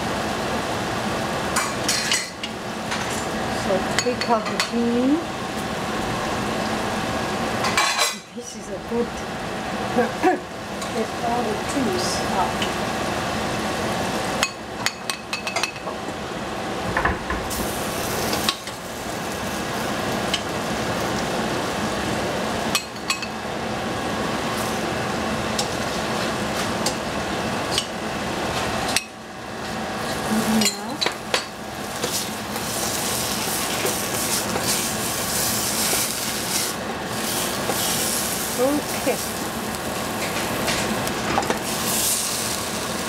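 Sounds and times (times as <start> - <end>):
vegetables sizzling in a pan: 0.0 - 15.3, 17.5 - 43.0.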